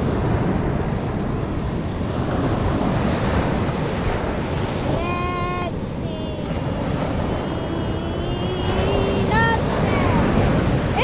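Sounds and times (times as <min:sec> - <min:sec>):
ocean surf washing on beach: 0:00.0 - 0:11.0
wind buffeting microphone: 0:00.0 - 0:11.0.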